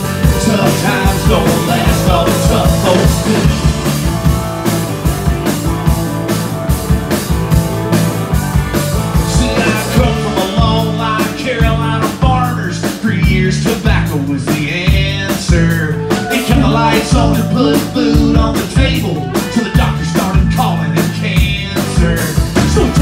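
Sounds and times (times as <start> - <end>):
drum kit beat: 0.0 - 23.0
keyboard: 0.0 - 23.0
lead melody line: 0.0 - 23.0.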